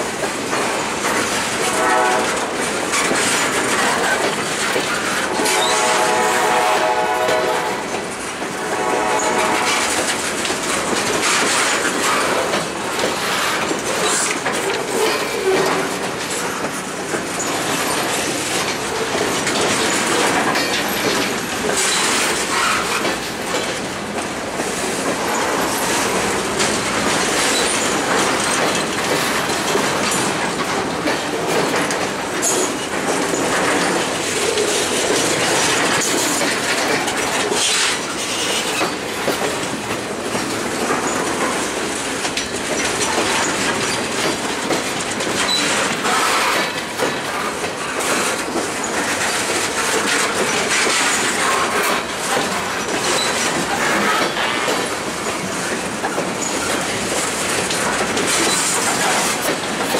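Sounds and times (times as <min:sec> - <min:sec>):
steel wheels rumbling on rail: 0:00.0 - 0:59.9
wheels clicking over rail joints: 0:00.0 - 0:59.9.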